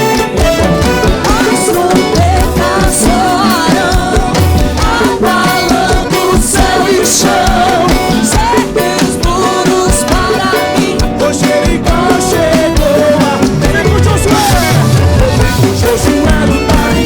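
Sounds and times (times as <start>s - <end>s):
upbeat gospel band music: 0.0s - 17.0s.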